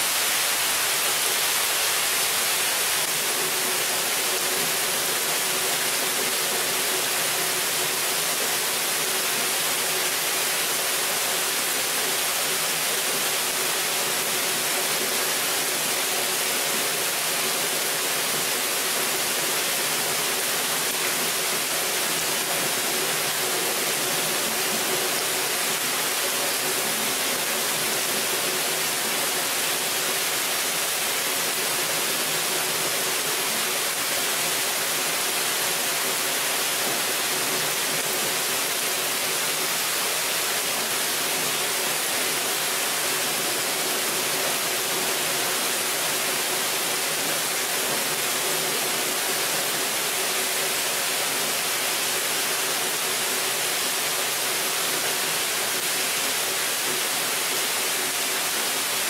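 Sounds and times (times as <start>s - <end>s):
rain falling on leaves: 0.0s - 59.0s.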